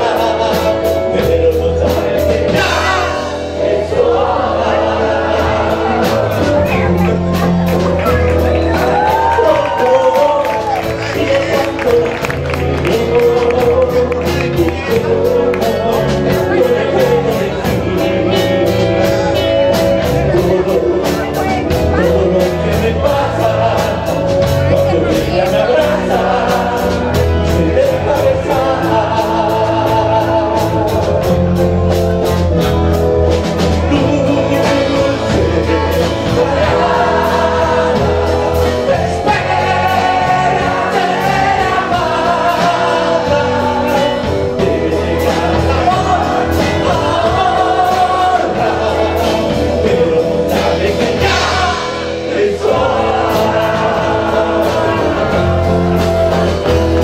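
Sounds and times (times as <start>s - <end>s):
man singing into microphone: 0.0s - 33.0s, 33.6s - 57.0s
drum kit beat: 0.0s - 57.0s
electric guitars: 0.0s - 57.0s.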